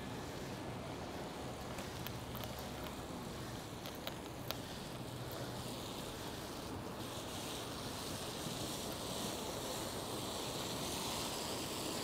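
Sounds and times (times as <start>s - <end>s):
bicycle road noise: 0.0s - 12.0s.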